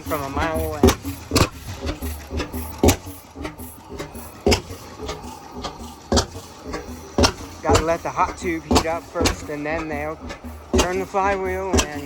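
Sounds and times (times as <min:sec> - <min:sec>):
engine running slowly with thumps: 0:00.0 - 0:12.0.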